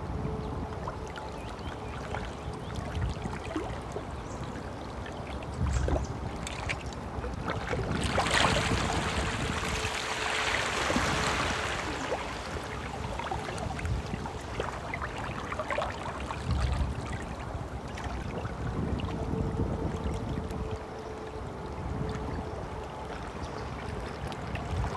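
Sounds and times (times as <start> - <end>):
stream water running and splashing: 0.8 - 24.9.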